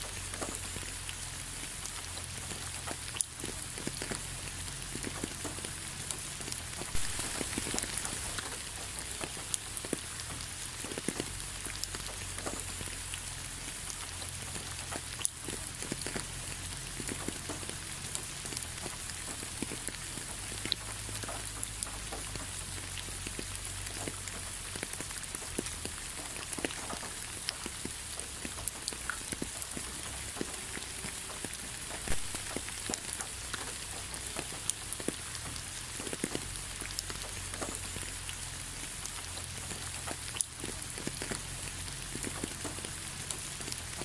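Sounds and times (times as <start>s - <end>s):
raindrops ticking: 0.0s - 44.0s
steady rain hiss: 0.0s - 44.0s.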